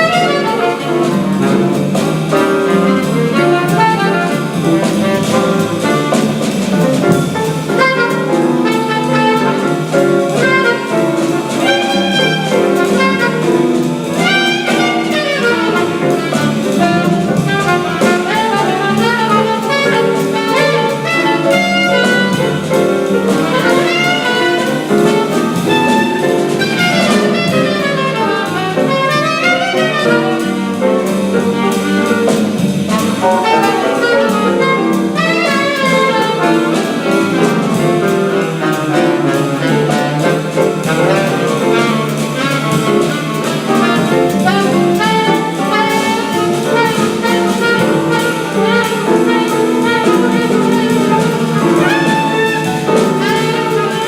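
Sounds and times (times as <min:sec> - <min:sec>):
drum kit: 0:00.0 - 0:54.0
piano: 0:00.0 - 0:54.0
saxophone melody: 0:00.0 - 0:54.0.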